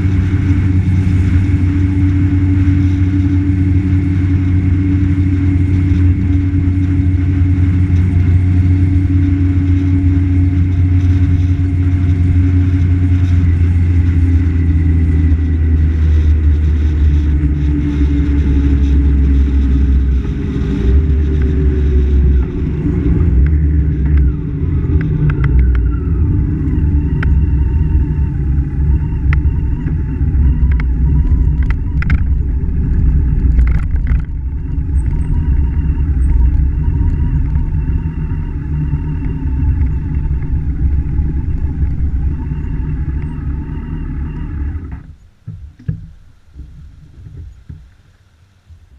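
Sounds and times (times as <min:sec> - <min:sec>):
vehicle engine running: 0:00.0 - 0:48.9
wind rumble on microphone: 0:00.0 - 0:48.9.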